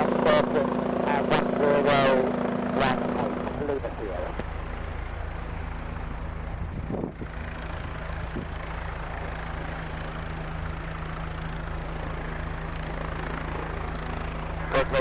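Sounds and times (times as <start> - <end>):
helicopter engine hum: 0.0 - 15.0
helicopter rotor beat: 0.0 - 15.0.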